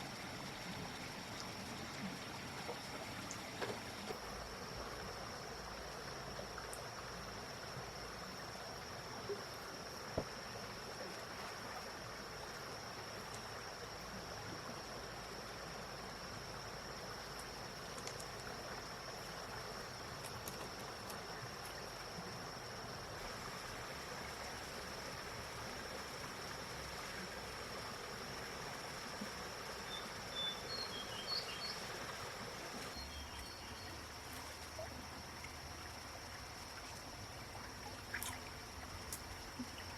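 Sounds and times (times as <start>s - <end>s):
flowing water hiss: 0.0s - 39.9s.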